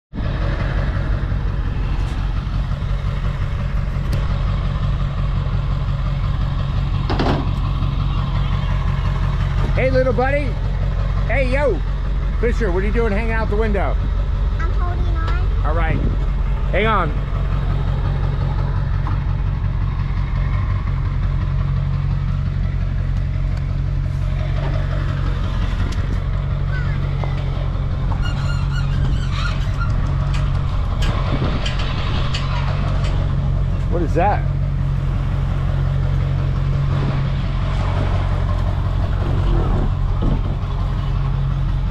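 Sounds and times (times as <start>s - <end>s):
vehicle engine and road rumble: 0.0s - 41.9s.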